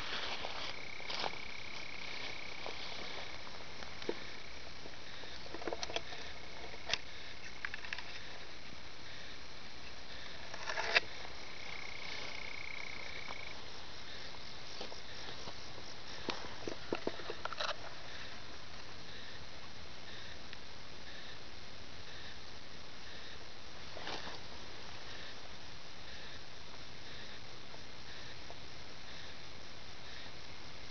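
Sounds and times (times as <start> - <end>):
toads trilling: 0.0 - 21.5, 22.1 - 30.8
steady hiss: 0.0 - 30.9.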